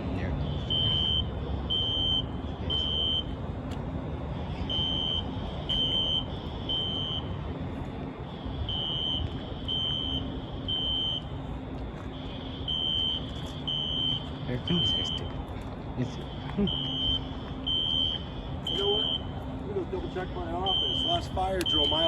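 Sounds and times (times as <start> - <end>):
fire alarm beeping: 0.4 - 3.4, 4.7 - 7.4, 8.3 - 11.4, 12.0 - 15.4, 16.0 - 22.0.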